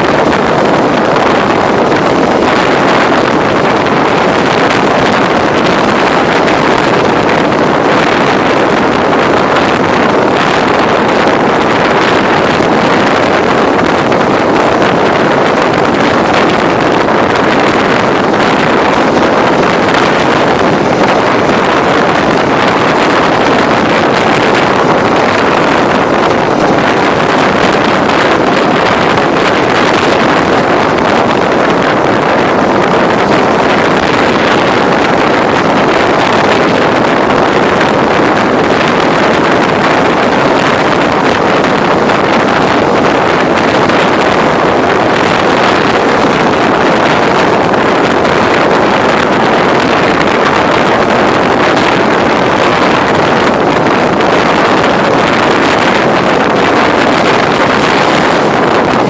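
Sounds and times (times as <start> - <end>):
passenger train rolling: 0.0 - 59.0
wind on microphone: 0.0 - 59.0.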